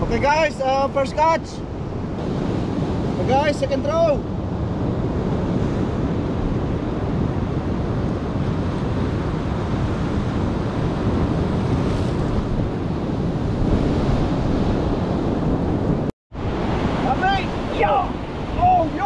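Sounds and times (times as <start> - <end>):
ocean surf breaking on rocks: 0.0 - 19.0
wind buffeting microphone: 0.0 - 19.0.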